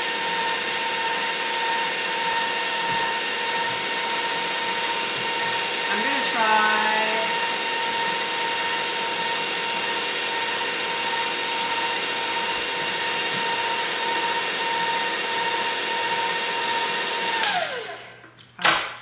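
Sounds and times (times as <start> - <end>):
electric mixer whining: 0.0 - 18.3.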